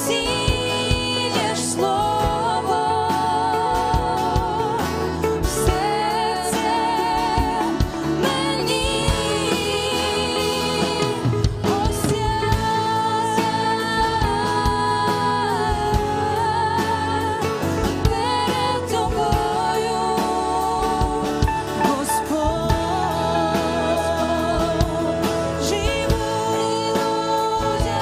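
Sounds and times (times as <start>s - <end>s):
drums: 0.0s - 28.0s
guitar: 0.0s - 28.0s
worship band playing slow song: 0.0s - 28.0s.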